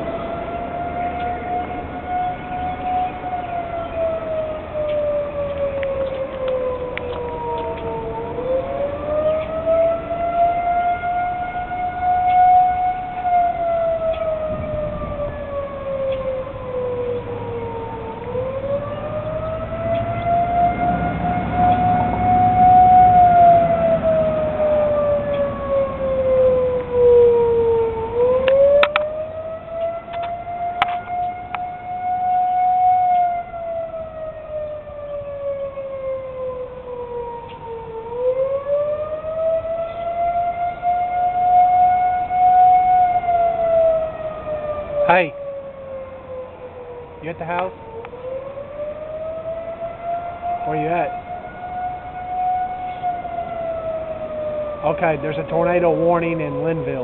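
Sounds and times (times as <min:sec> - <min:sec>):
tornado sirens wailing: 0:00.0 - 0:57.0.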